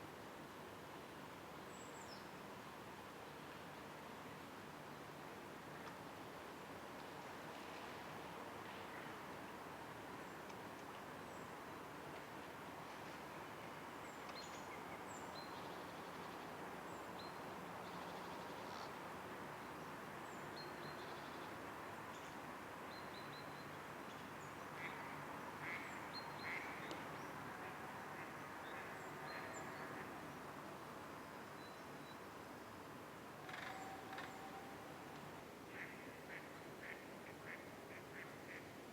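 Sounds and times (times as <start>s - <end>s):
steady background noise: 0.0s - 38.9s.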